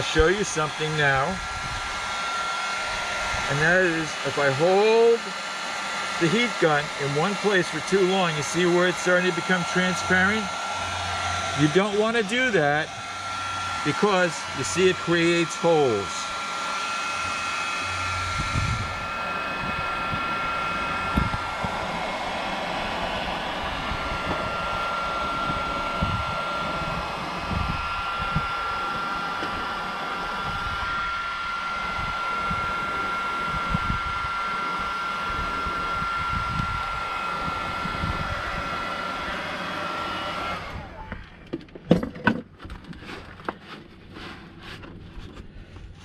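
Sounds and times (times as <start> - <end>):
heat gun blowing with whine: 0.0 - 41.6.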